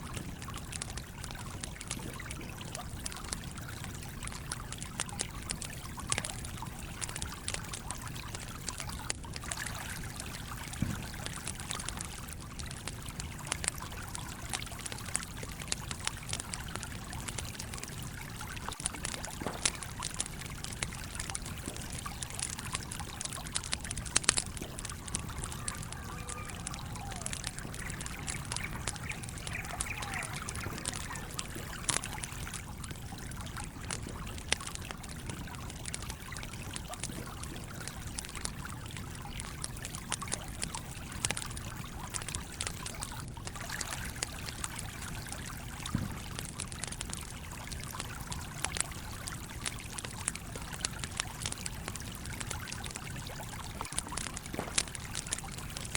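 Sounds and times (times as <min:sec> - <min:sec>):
campfire crackling and popping: 0:00.0 - 0:55.9
stream water trickling: 0:00.0 - 0:55.9.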